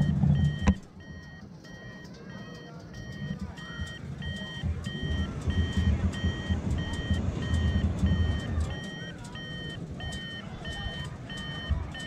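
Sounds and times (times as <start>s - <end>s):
high electronic beeps: 0.0s - 12.0s.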